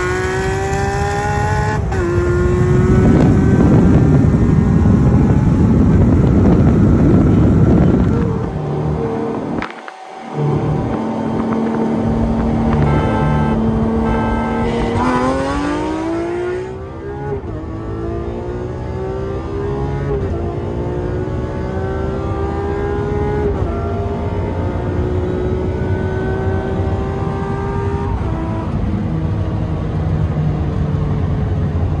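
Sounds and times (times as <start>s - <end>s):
car engine accelerating through gears: 0.0s - 32.0s.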